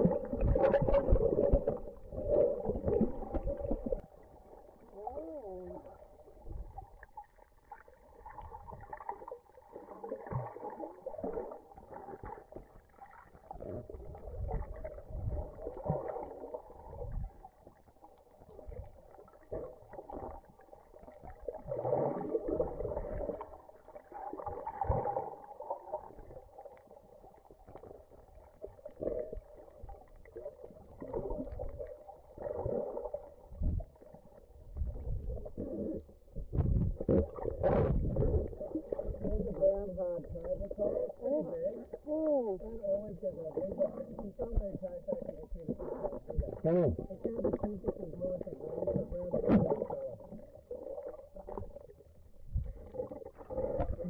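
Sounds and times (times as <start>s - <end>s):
water sloshing and gurgling: 0.0s - 54.0s.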